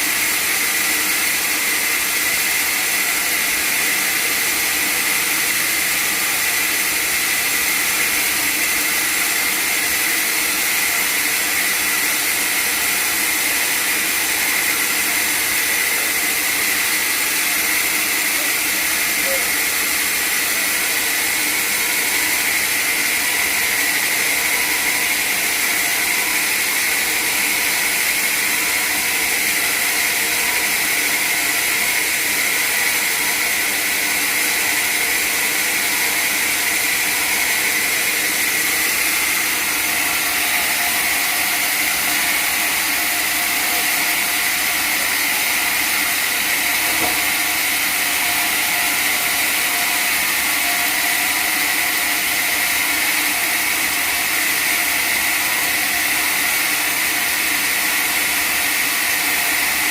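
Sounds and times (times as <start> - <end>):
sawmill machinery hiss and whine: 0.0 - 59.9.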